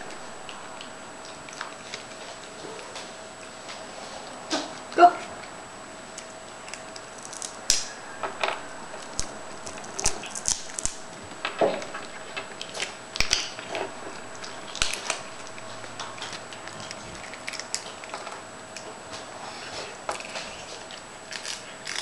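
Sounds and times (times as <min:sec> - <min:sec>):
cats crunching treats: 0:00.0 - 0:22.0.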